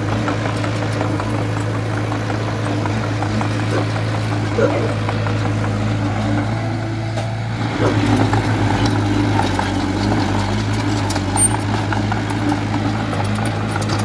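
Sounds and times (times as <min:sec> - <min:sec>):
heavy machine diesel engine running: 0:00.0 - 0:14.0.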